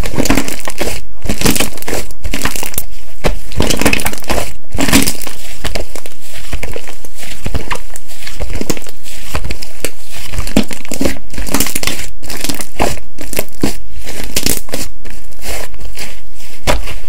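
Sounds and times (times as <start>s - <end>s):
slime crackling and popping: 0.0s - 17.0s.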